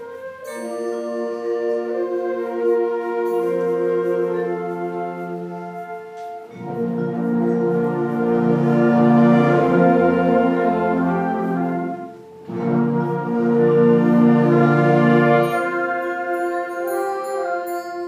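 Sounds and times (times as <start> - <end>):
wind band playing slow chords: 0.0 - 18.0.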